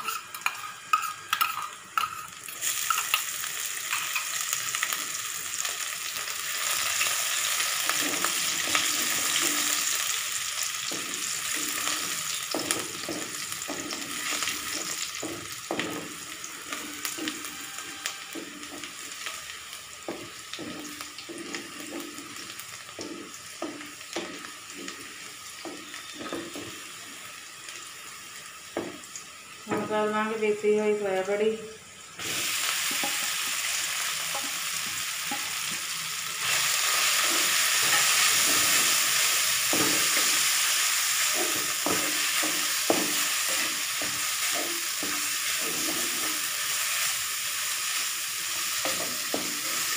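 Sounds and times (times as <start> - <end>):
chillies sizzling in hot oil: 0.0 - 49.9.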